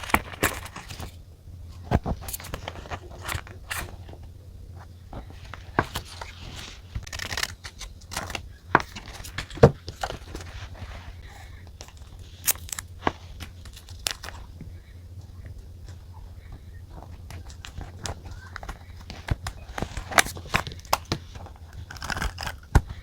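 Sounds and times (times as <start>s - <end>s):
paper rustling and crinkling: 0.0s - 23.0s
steady low hum: 0.0s - 23.0s.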